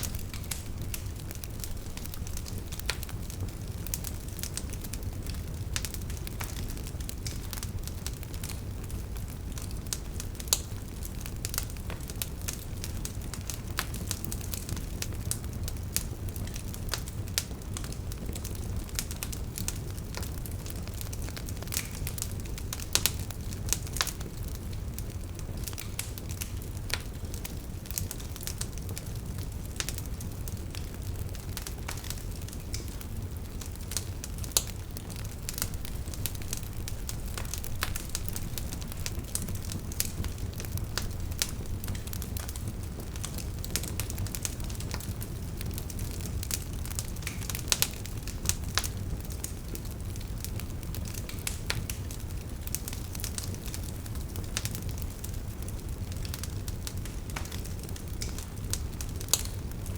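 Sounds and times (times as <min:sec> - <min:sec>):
campfire wood popping: 0:00.0 - 0:59.9
low rumble of flames: 0:00.0 - 0:59.9.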